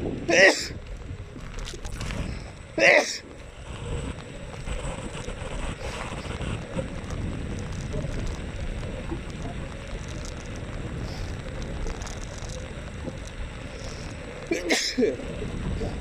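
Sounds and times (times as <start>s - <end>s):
faint steady hum: 0.0s - 16.0s
road rumble: 0.0s - 16.0s
wind rumbling on microphone: 0.0s - 16.0s.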